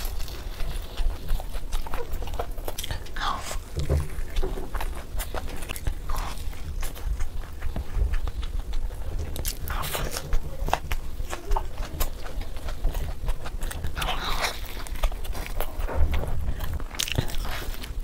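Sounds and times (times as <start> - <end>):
close chewing with mouth clicks: 0.0 - 18.0.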